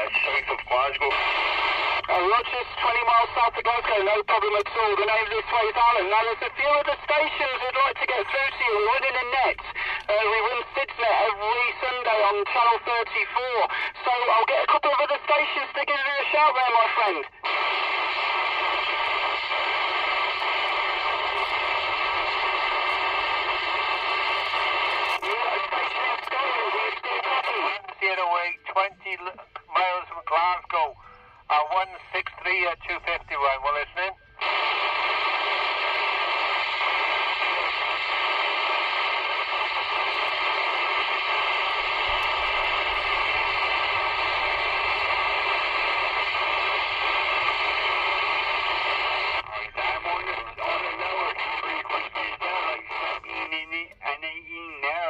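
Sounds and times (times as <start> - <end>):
radio static hiss: 0.0 - 55.0
voice over radio: 0.0 - 55.0.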